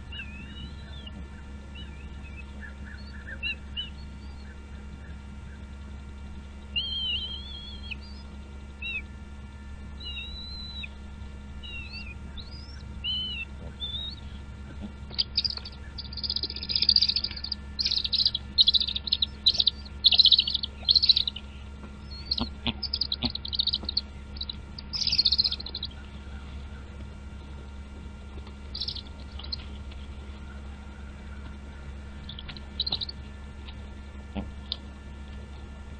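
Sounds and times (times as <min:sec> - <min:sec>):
birds chirping: 0:00.0 - 0:35.9
steady low hum: 0:00.0 - 0:35.9.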